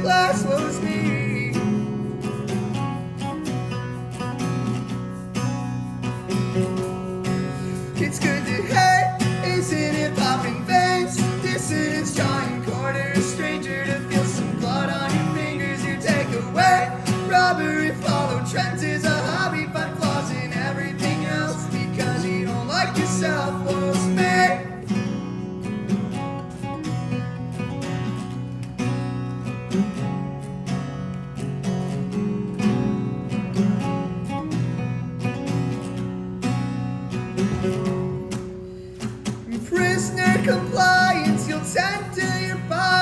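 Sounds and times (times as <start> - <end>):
acoustic guitars playing: 0.0 - 43.0.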